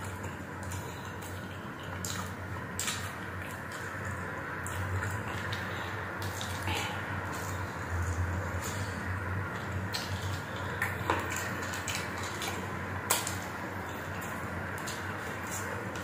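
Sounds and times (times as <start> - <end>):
chewing and mouth clicks: 0.0 - 16.0
steady low hum: 0.0 - 16.0.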